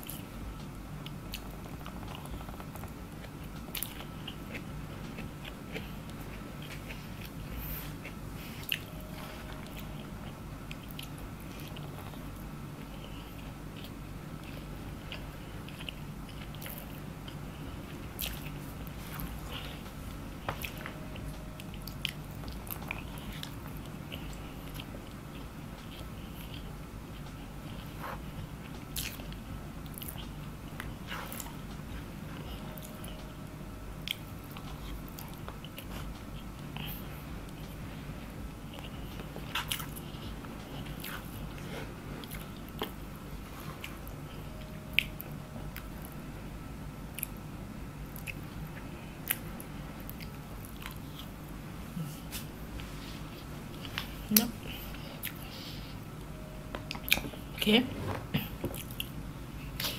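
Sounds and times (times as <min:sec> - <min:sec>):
person chewing food: 0:00.0 - 0:46.3, 0:47.1 - 0:47.4, 0:48.0 - 0:59.9
steady low hum: 0:00.0 - 0:59.9.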